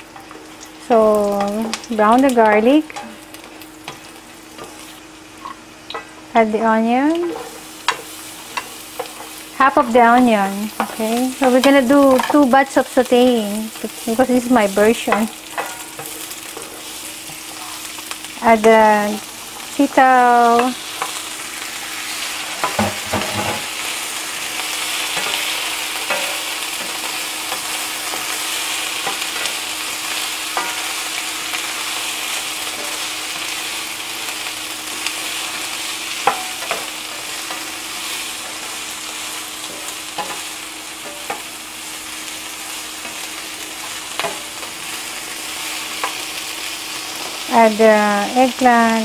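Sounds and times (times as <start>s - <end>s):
vegetables sizzling in oil: 0.0s - 49.0s.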